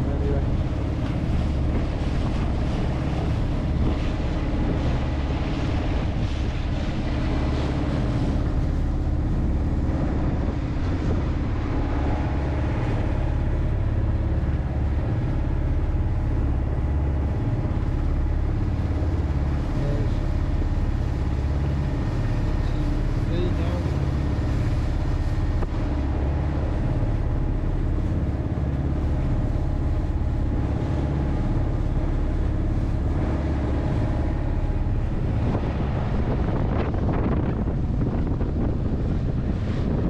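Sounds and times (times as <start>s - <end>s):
boat engine drone: 0.0s - 40.0s.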